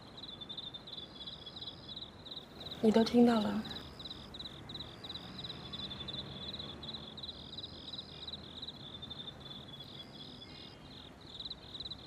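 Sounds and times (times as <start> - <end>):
crickets chirping: 0.0 - 12.0
high insect trill: 0.0 - 12.0.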